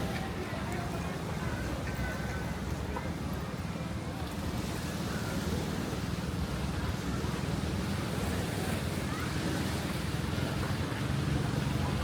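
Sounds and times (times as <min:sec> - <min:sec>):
ocean surf on a beach: 0:00.0 - 0:12.0.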